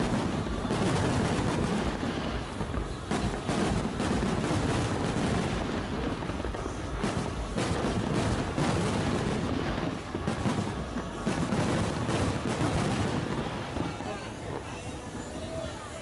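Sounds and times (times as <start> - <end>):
aerial fireworks exploding: 0.0 - 16.0.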